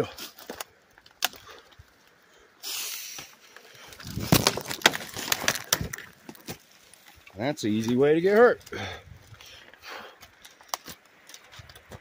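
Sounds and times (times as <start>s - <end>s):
undergrowth rustling: 0.1s - 12.0s
twigs cracking: 0.2s - 2.3s, 3.1s - 12.0s.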